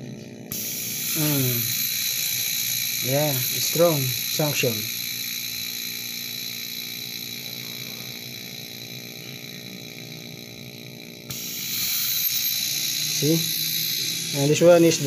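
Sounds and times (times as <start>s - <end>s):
compressor humming: 0.0s - 15.0s
air hissing: 0.5s - 15.0s.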